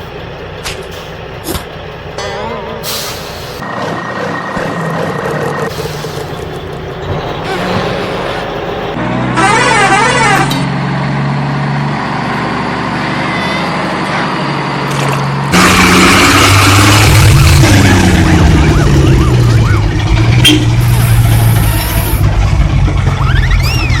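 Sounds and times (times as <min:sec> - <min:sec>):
engine-like drone: 0:00.0 - 0:24.0.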